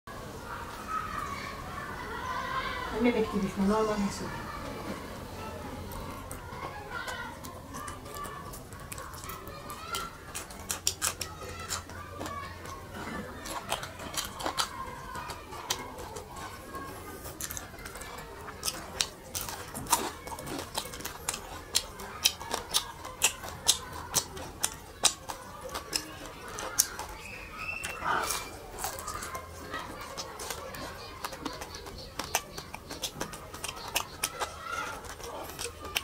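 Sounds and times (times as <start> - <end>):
chewing crunchy food: 4.4 - 36.0.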